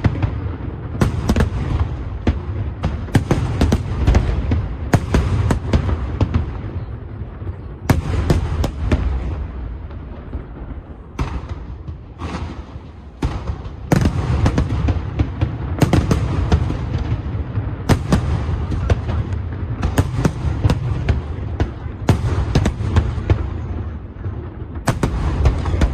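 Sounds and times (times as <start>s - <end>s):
fireworks bangs and booms: 0.0s - 25.9s.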